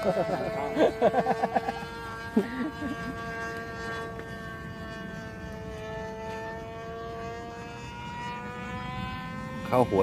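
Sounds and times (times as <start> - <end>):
model airplane engine buzzing: 0.0 - 10.0.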